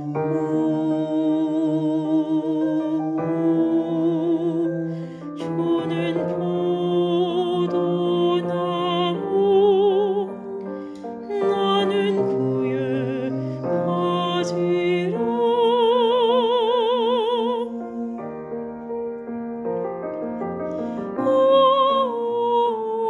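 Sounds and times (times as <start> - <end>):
choir singing sustained chords: 0.0 - 18.7.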